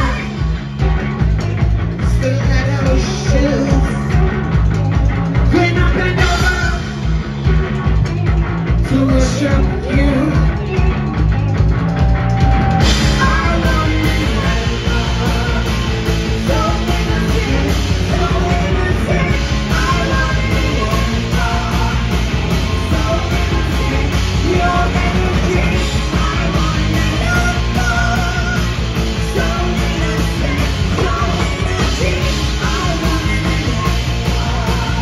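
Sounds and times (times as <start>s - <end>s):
person singing: 0.0s - 11.4s, 12.4s - 35.0s
punk rock band playing: 0.0s - 35.0s.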